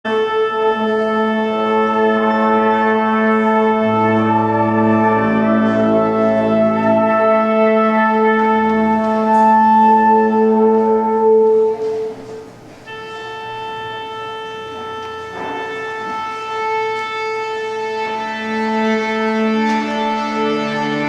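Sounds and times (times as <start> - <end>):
brass fanfare in held chords: 0.1 - 21.0.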